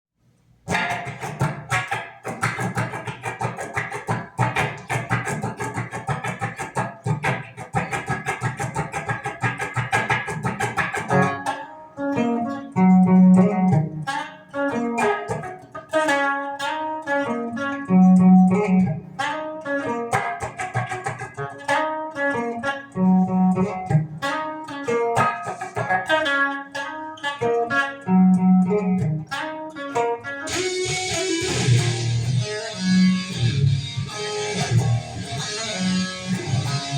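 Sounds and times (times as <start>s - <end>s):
guitar strumming and picking: 0.7s - 36.9s.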